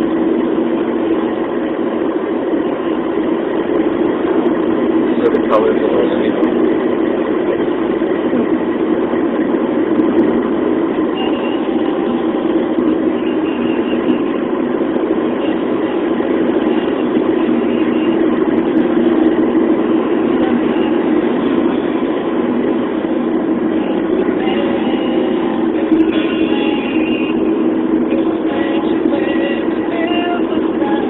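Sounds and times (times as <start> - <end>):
car cabin road noise: 0.0 - 31.0.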